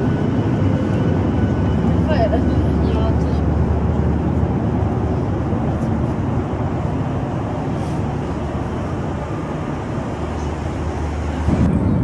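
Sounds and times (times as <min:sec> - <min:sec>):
airplane cabin engine rush: 0:00.0 - 0:12.0.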